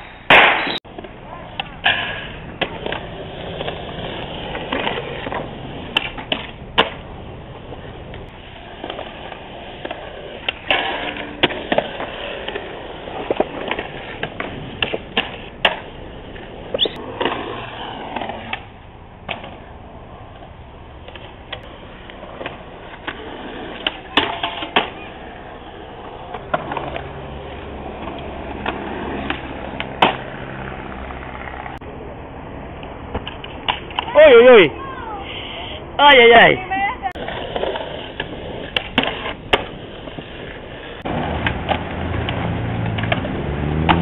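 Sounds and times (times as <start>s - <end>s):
skateboards rolling on concrete: 0.0s - 44.0s
skateboards clacking on ground: 0.2s - 32.0s, 32.7s - 44.0s.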